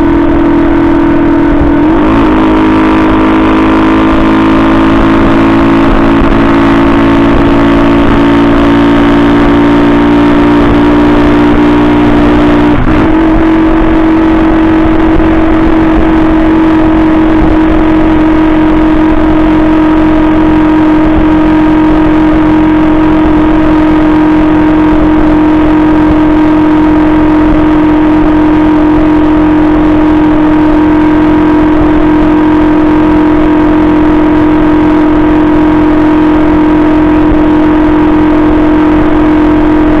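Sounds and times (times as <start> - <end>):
moped engine running: 0.0 - 40.0.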